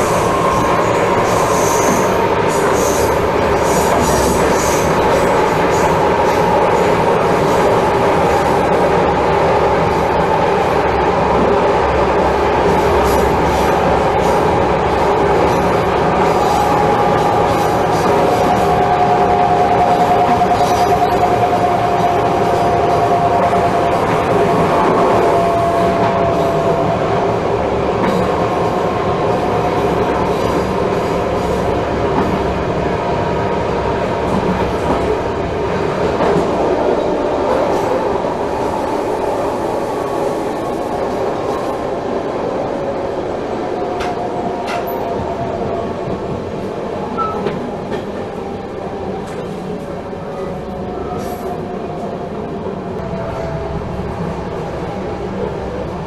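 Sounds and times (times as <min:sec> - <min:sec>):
electric locomotive rumble and whine: 0:00.0 - 0:56.0.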